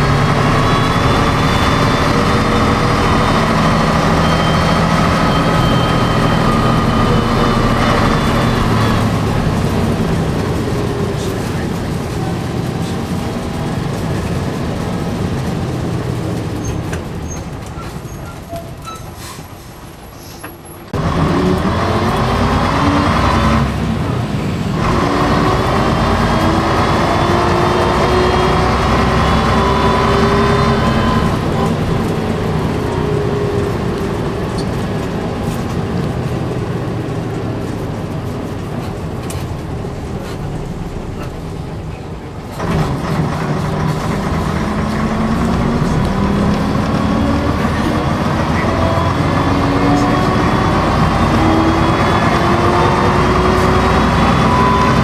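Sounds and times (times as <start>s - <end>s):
bus diesel engine: 0.0s - 55.0s.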